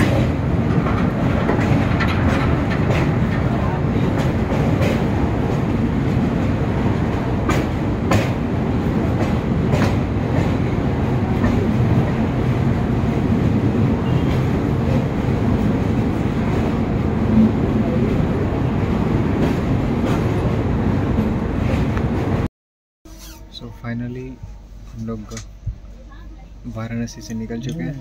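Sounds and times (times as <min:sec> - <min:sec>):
train rumbling over bridge: 0:00.0 - 0:22.5.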